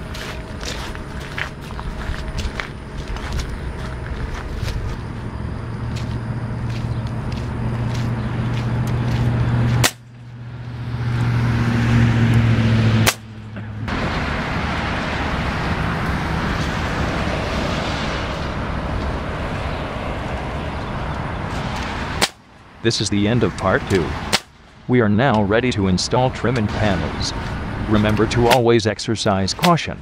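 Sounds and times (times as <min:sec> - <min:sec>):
engine humming: 0:00.0 - 0:30.0
steady rushing noise: 0:00.0 - 0:30.0.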